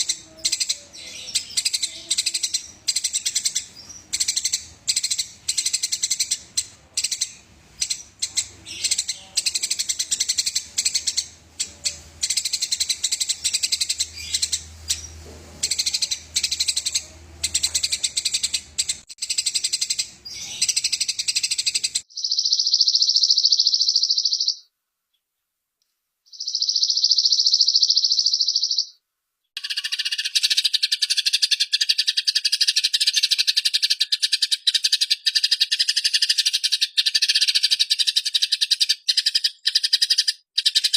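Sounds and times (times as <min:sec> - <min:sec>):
sparrows chirping: 0:00.0 - 0:24.7, 0:26.3 - 0:29.0, 0:29.6 - 0:40.9.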